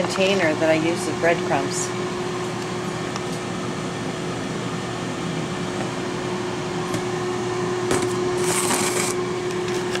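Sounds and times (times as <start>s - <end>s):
air fryer fan blowing: 0.0s - 10.0s
constant hum: 0.0s - 10.0s.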